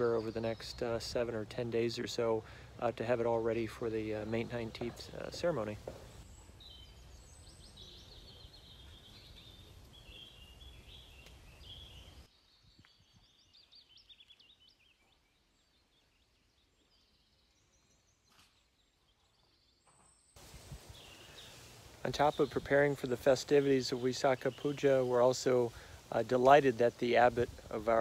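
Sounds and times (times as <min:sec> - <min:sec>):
low steady background noise: 0:00.0 - 0:13.1, 0:14.3 - 0:28.0
faint birdsong: 0:00.0 - 0:28.0.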